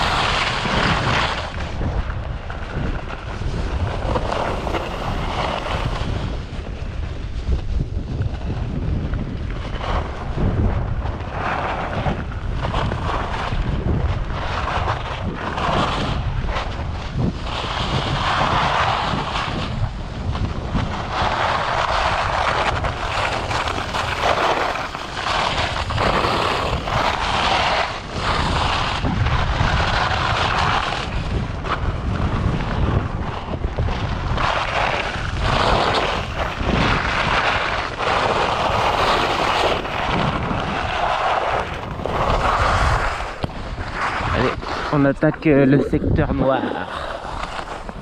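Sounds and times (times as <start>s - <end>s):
skis scraping over snow: 0.0s - 48.0s
wind buffeting microphone: 0.0s - 48.0s.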